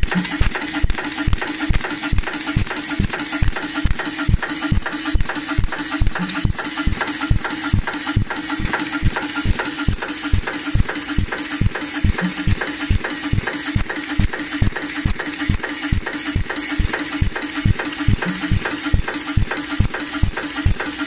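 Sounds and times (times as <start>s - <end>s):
machine mechanical hum: 0.0s - 21.0s
setting machine pressing strokes: 0.0s - 21.0s.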